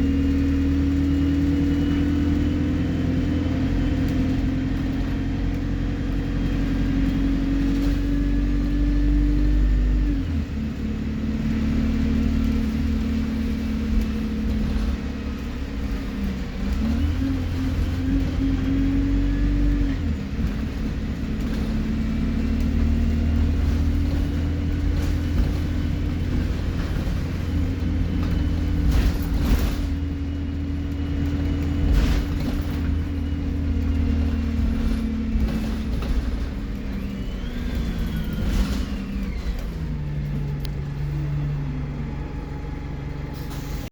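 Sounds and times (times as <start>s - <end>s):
bus engine running: 0.0s - 43.9s.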